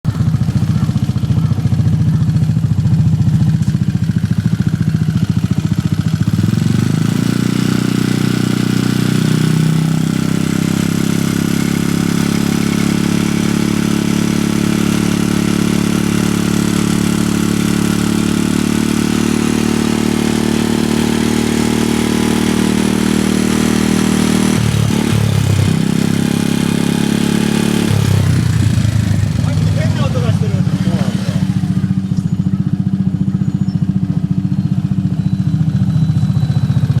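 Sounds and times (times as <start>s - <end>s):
scooter engine running: 0.0s - 37.0s
engine clicking noise: 0.1s - 37.0s.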